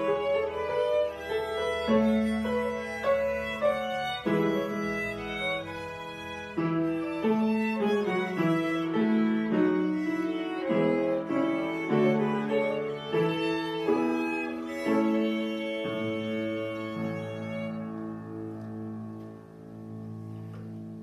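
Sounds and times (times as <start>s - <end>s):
violin slow melody: 0.0s - 21.0s.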